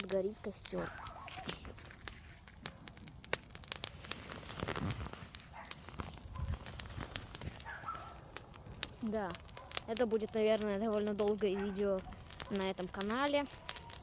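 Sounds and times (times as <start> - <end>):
bonfire crackling and popping: 0.0 - 14.0
rush of flames: 0.0 - 14.0.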